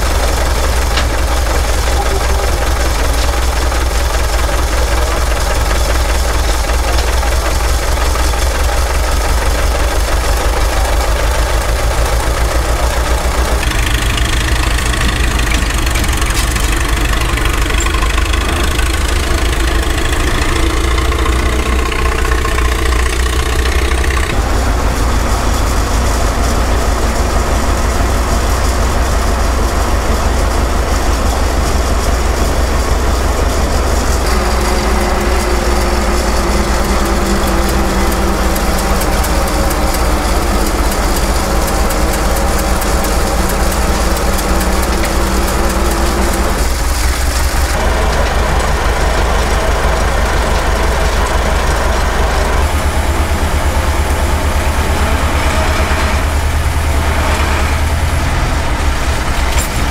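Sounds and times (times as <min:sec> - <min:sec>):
tractor engine running: 0:00.0 - 0:59.9
tractor engine with faster beat: 0:00.0 - 0:59.9.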